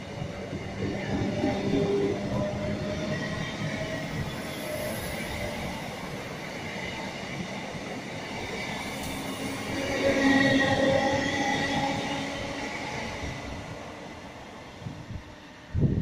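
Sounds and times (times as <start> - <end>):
train wheels rolling on rails: 0.0 - 16.0.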